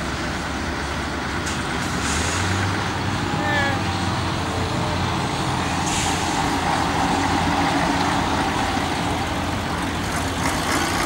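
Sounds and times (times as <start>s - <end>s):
fire engine diesel engine rumble: 0.0s - 11.0s.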